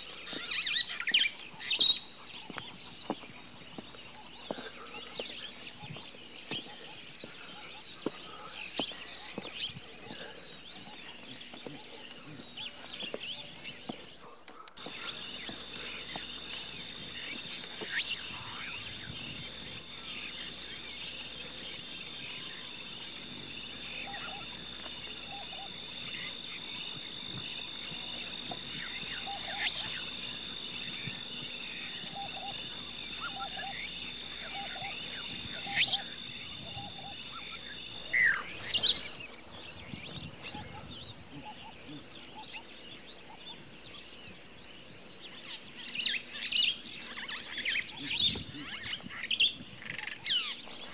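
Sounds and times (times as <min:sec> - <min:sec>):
high-pitched wildlife chorus: 0:00.0 - 0:50.9.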